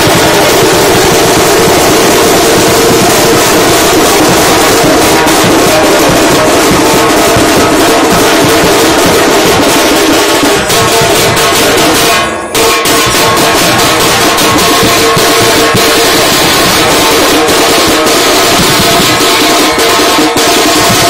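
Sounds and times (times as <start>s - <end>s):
bass drums: 0.0s - 21.0s
side drum struck with sticks: 0.0s - 21.0s.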